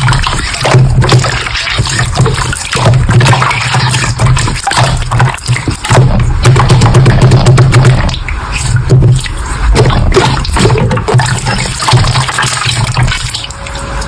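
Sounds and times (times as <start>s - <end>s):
slime squelching by hand: 0.0s - 14.0s.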